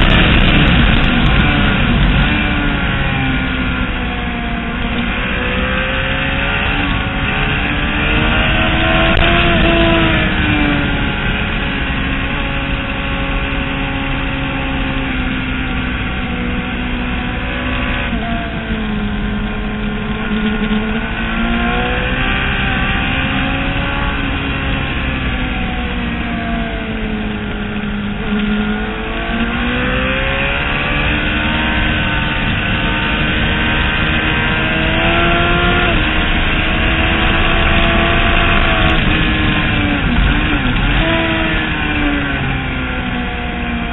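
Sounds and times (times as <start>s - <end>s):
motorcycle engine at speed: 0.0s - 43.9s
wind noise: 0.0s - 43.9s.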